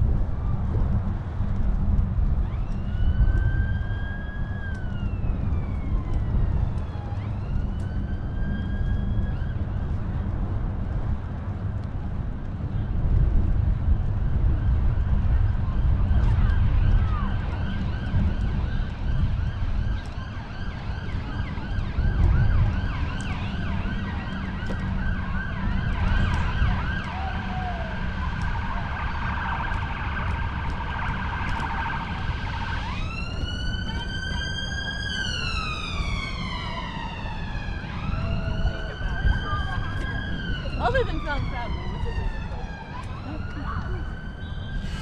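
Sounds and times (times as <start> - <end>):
emergency vehicle siren: 0.0 - 45.0
wind rumble on microphone: 0.0 - 45.0.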